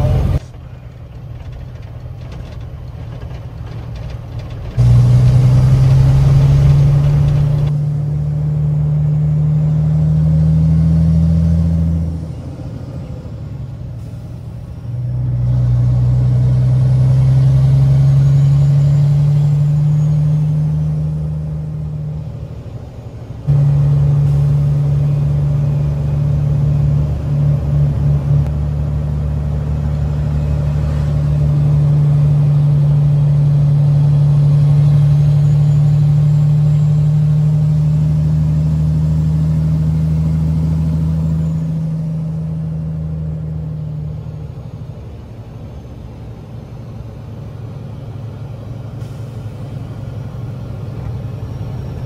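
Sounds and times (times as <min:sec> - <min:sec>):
truck diesel engine pulling: 0:00.0 - 0:52.0.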